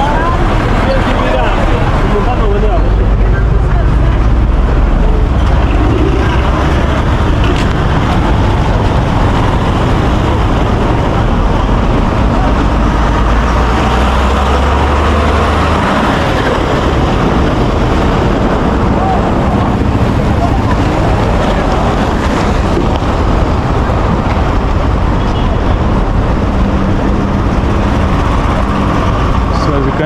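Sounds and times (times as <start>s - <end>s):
low engine drone: 0.0s - 30.0s
road traffic rumble: 0.0s - 30.0s.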